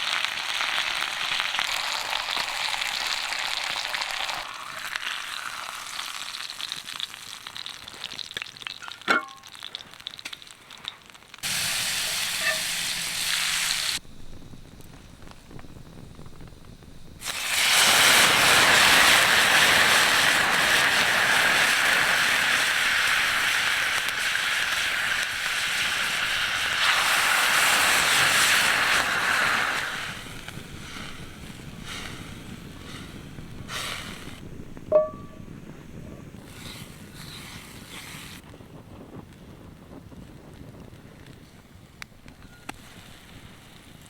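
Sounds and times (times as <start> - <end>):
grease hissing and sputtering: 0.0 - 14.1, 15.3 - 34.5, 36.3 - 38.4.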